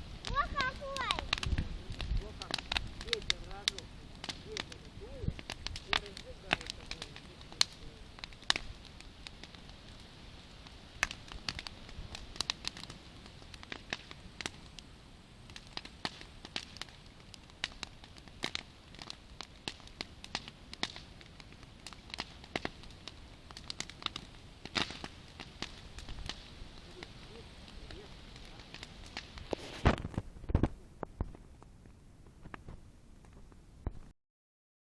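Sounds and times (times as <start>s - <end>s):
campfire crackling: 0.0s - 34.1s.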